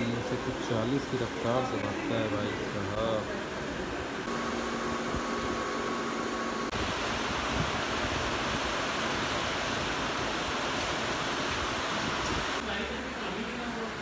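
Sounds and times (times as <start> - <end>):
faint hum: 0.0 - 14.0
fan background hiss: 0.0 - 14.0.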